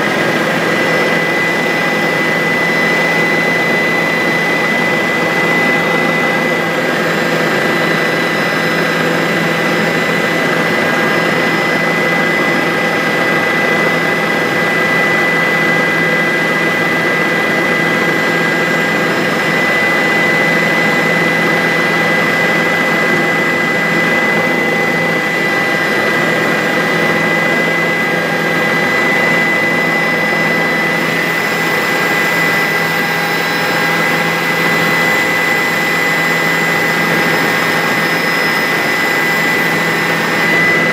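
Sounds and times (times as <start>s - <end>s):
helicopter engine and rotors: 0.0s - 40.9s
high-pitched turbine whine: 0.0s - 40.9s.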